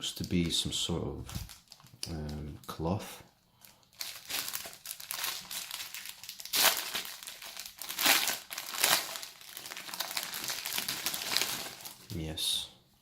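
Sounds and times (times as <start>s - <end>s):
packaging crinkling and rustling: 0.0s - 2.8s, 3.6s - 12.3s.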